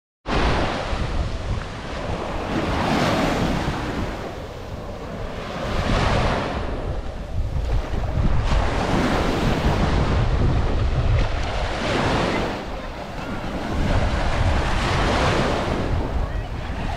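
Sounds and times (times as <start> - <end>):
small waves washing onto sand: 0.3 - 16.9
wind rumbling on microphone: 0.3 - 16.9.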